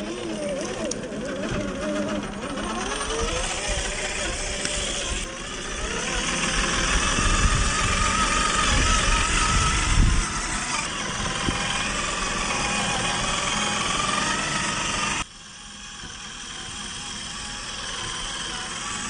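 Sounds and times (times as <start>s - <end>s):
toy car motor whining: 0.0s - 19.0s.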